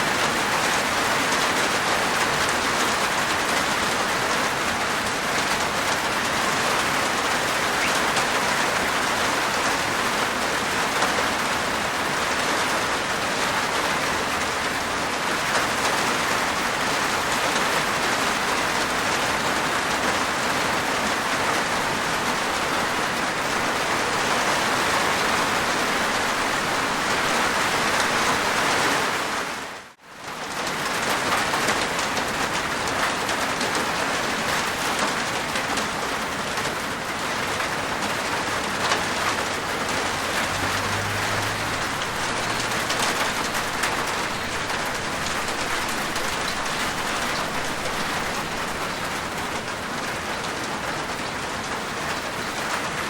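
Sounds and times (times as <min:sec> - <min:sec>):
rain on a rooftop: 0:00.0 - 0:53.0.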